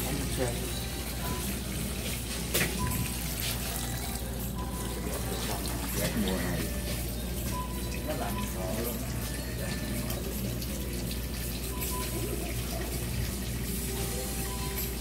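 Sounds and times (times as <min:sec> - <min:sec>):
water running into basin: 0:00.0 - 0:15.0.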